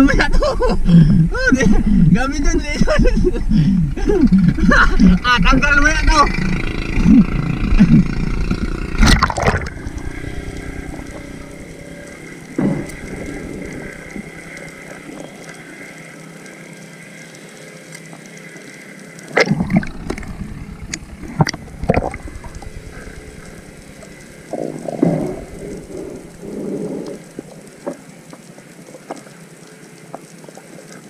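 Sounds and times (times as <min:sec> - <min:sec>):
underwater noise: 0:00.0 - 0:31.0
seawater splashing: 0:04.0 - 0:31.0.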